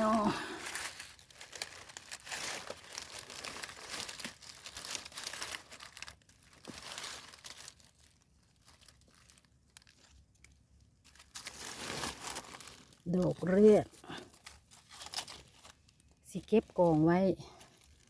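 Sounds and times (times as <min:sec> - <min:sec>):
dry leaf litter rustling and crackling: 0:00.0 - 0:18.0.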